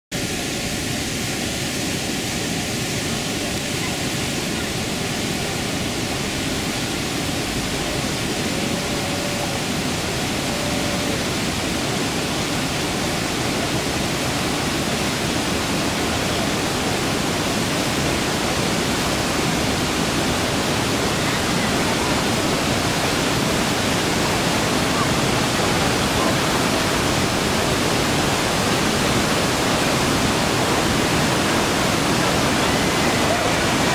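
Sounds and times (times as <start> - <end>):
fountain water pouring into pool: 0.2 - 33.9.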